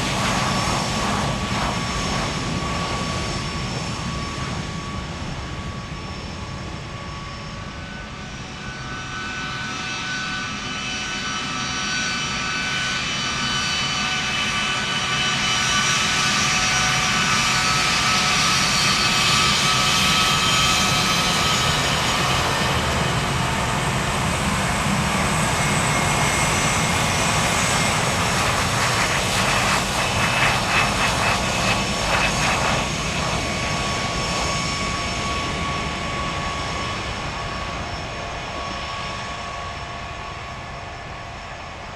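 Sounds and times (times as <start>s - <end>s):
jet engine whine and rush: 0.0s - 41.9s.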